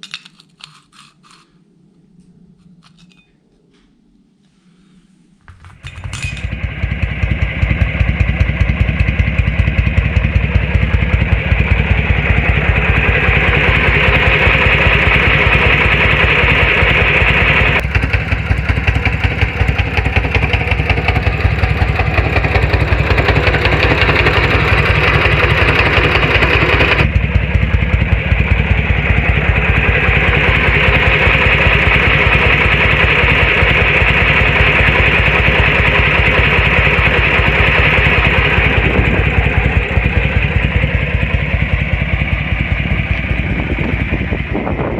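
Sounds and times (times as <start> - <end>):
motorcycle engine starting and running: 5.5 - 44.9.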